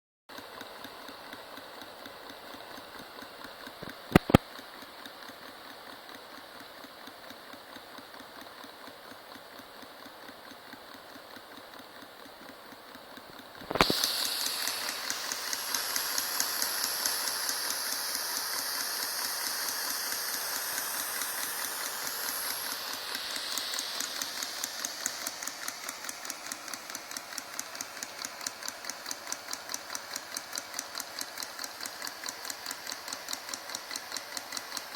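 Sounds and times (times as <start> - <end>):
small engine mechanical clatter: 0.3 - 34.9
sharp clicks: 1.6 - 6.2, 10.4 - 34.9.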